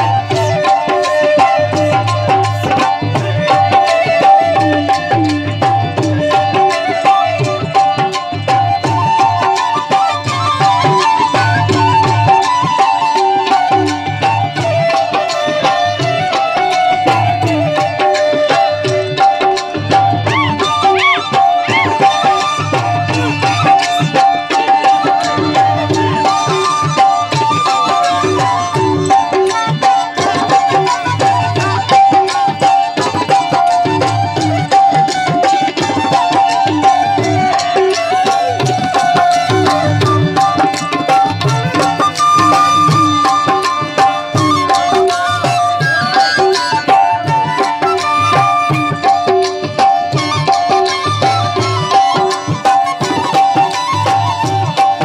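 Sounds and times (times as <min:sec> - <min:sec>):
dholak drum beating: 0:00.0 - 0:55.0
double flute folk melody: 0:00.0 - 0:55.0
jingling percussion stick: 0:00.0 - 0:55.0.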